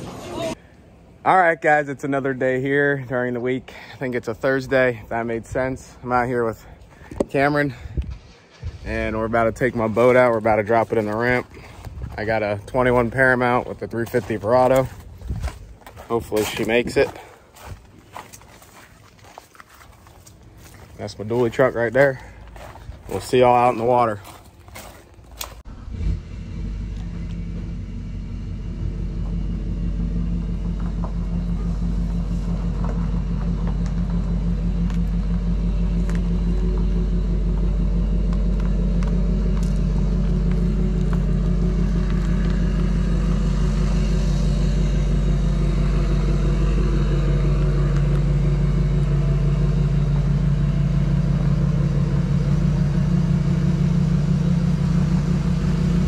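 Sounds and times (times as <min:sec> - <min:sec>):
pickup truck engine rumbling: 0:00.0 - 0:56.0.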